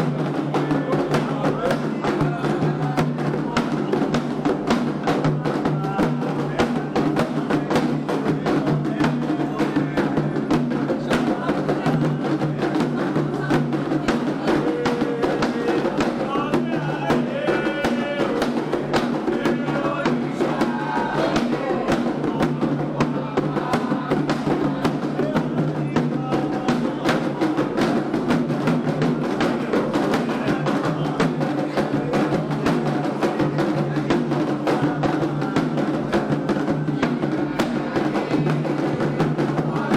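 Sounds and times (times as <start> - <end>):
hand drums and percussion: 0.0 - 39.9
voices singing a chant: 0.0 - 39.9.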